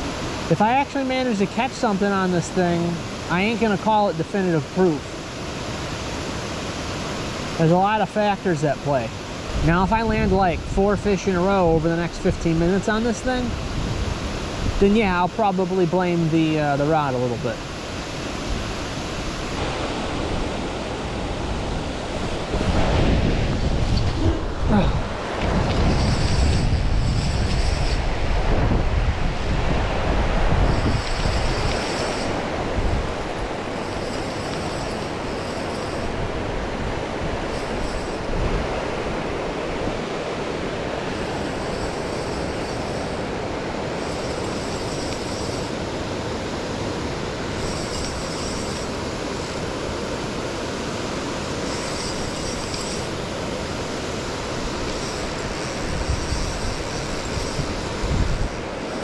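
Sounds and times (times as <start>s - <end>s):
wind buffeting microphone: 9.3s - 59.0s.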